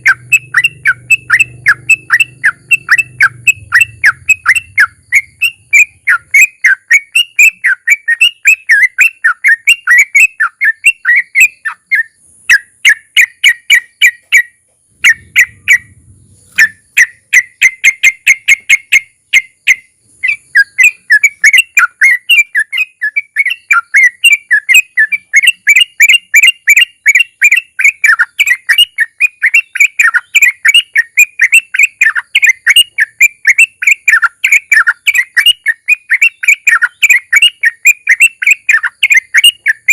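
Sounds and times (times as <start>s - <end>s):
bird singing rapid whistled chirps: 0.0s - 39.9s.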